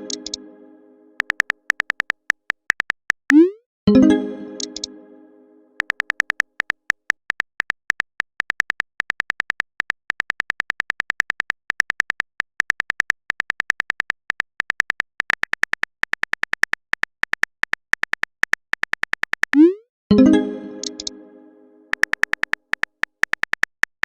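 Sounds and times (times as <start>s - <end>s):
typing clicks: 0.0s - 0.4s, 1.2s - 3.5s, 4.6s - 4.9s, 5.8s - 19.8s, 20.8s - 21.1s, 21.9s - 24.0s.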